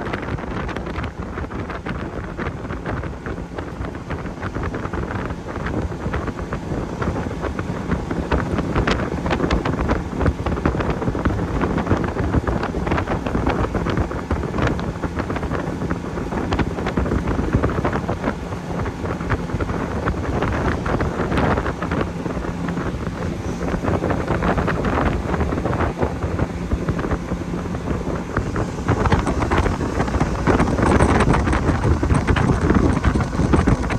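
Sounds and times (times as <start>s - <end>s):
faint motorboat engine hum: 0.0s - 33.9s
hull slapping on waves: 0.0s - 33.9s
wind buffeting microphone: 0.0s - 33.9s.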